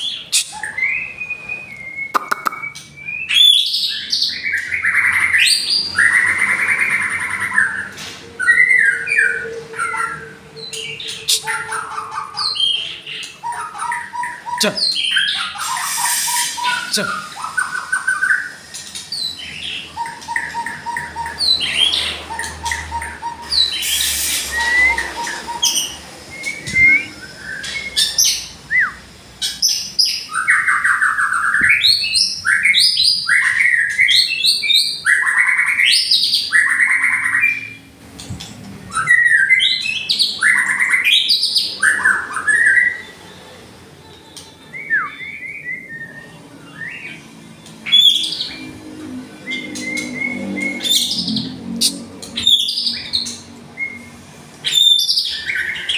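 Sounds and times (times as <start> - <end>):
songbird whistling and trilling: 0.0 - 37.8, 38.9 - 43.2, 44.6 - 47.2, 49.4 - 51.4, 52.3 - 55.9.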